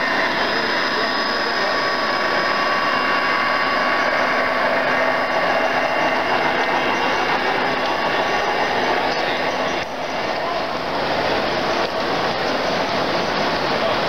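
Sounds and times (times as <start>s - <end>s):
model train whirring hum: 0.0s - 14.0s.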